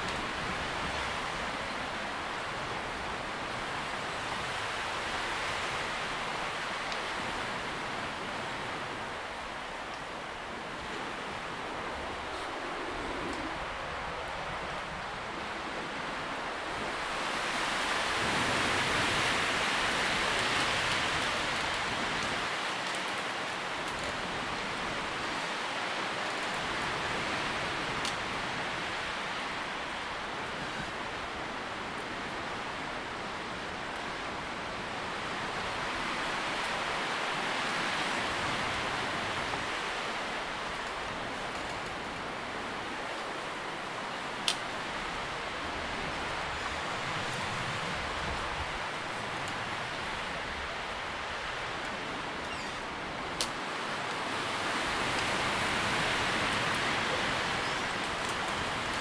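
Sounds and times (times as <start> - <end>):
wind rustling leaves: 0.0 - 59.0.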